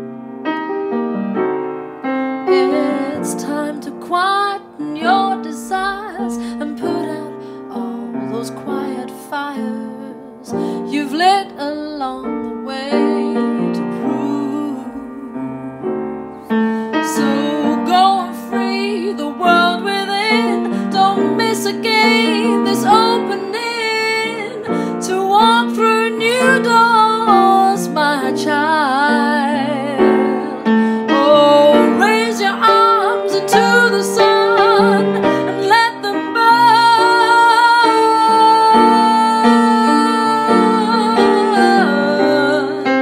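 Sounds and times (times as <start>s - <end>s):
acoustic piano: 0.0s - 43.0s
woman singing: 2.4s - 43.0s.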